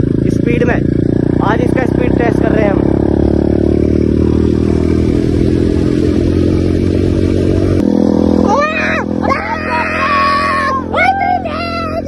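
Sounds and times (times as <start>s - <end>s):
dirt bike engine running hard: 0.0s - 12.0s.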